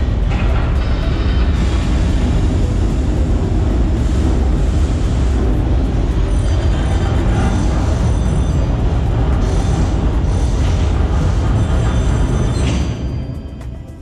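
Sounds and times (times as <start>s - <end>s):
low machinery rumble over speakers: 0.0s - 14.0s.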